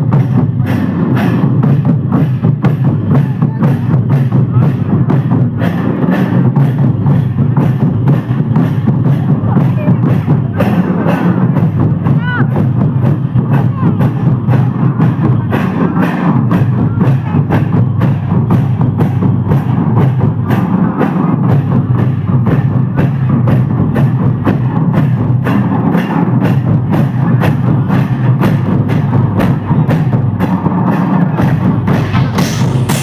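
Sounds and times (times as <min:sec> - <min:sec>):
music with fast percussion beat: 0:00.0 - 0:33.0.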